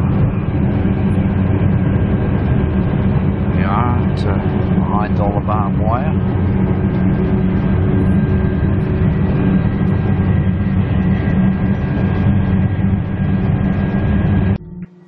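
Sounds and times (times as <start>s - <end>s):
constant hum: 0.0s - 15.0s.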